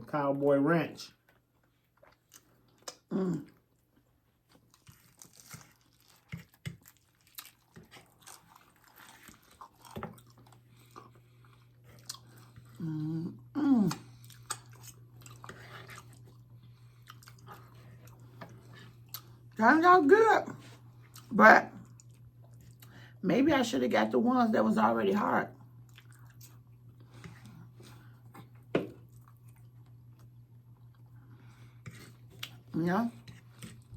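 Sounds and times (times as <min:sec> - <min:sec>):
low steady hum: 0:00.0 - 0:33.9
chewing crispy food: 0:01.3 - 0:19.6, 0:20.8 - 0:23.1, 0:25.6 - 0:33.9.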